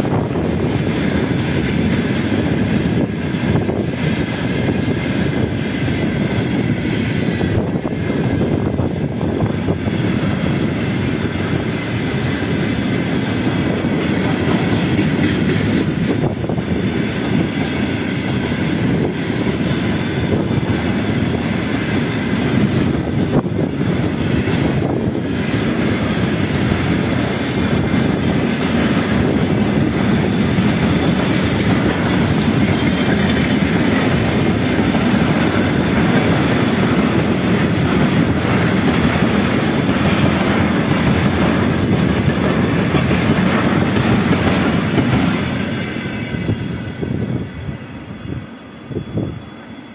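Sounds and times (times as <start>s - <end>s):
train knocks: 0.0s - 47.6s
freight train wheels rolling: 0.0s - 49.9s.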